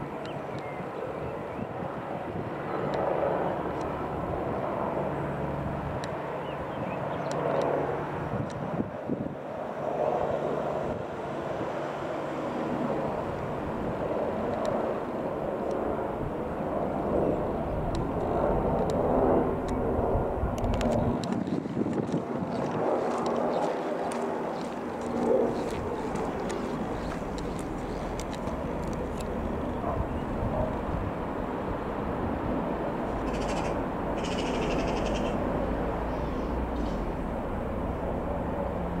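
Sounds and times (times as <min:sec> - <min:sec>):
helicopter flying overhead: 0:00.0 - 0:39.0.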